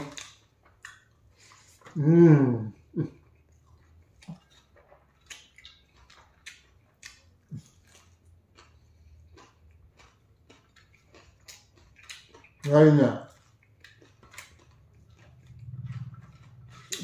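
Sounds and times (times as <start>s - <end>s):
mouth chewing with wet clicks: 0.0s - 2.0s, 3.1s - 17.0s.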